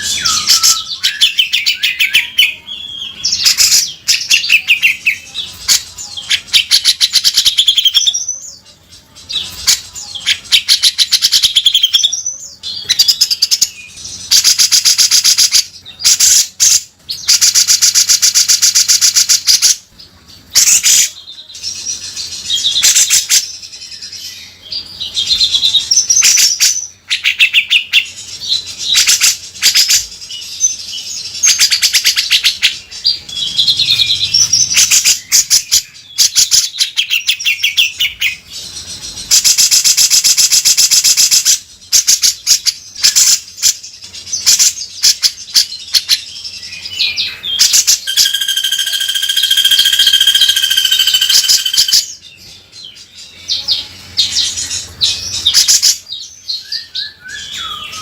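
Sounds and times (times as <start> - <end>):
bird singing with rattling trills: 0.0 - 58.0.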